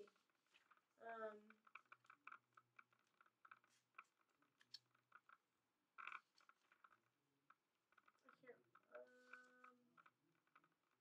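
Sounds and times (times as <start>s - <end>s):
soft rustle: 0.0s - 11.0s.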